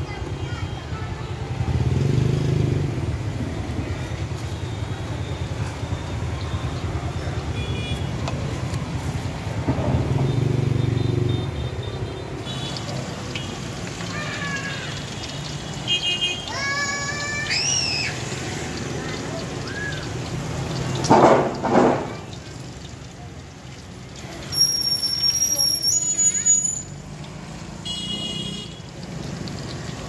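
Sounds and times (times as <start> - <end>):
traffic passing: 0.0 - 30.0.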